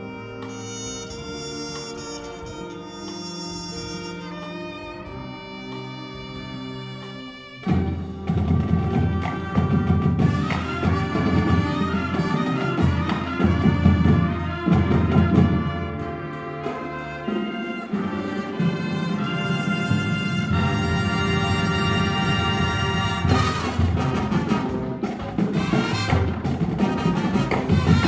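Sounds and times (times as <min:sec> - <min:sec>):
marching band playing: 0:00.0 - 0:28.0.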